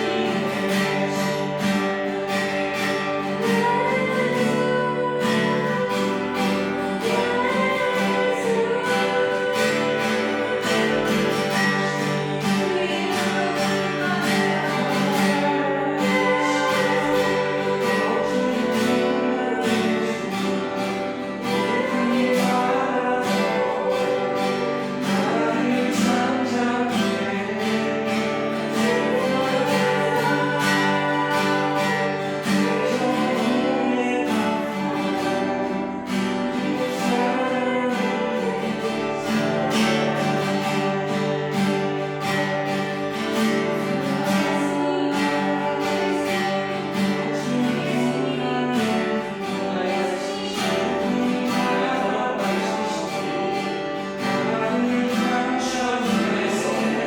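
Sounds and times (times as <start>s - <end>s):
people singing: 0.0s - 57.0s
strummed acoustic guitar: 0.0s - 57.0s.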